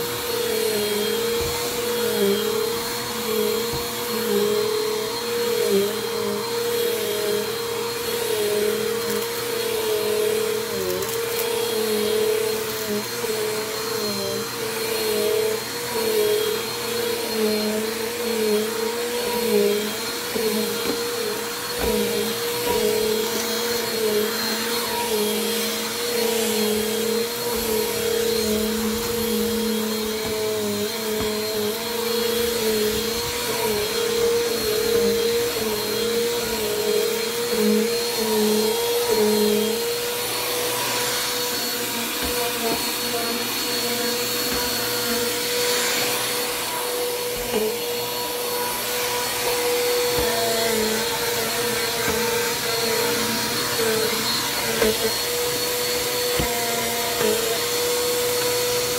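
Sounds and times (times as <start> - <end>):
vacuum cleaner motor whine: 0.0 - 58.9.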